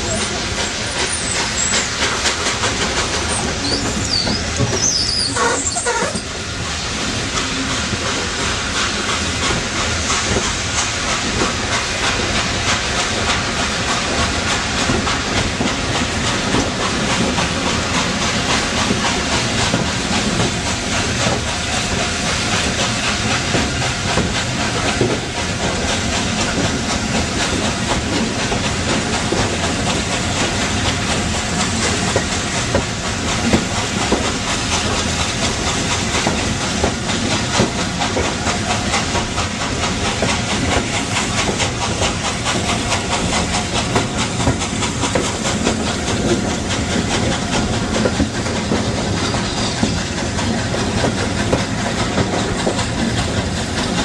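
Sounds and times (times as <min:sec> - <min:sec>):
steam locomotive exhaust beat: 0:00.0 - 0:54.0
train wheels clickety-clack: 0:00.0 - 0:54.0.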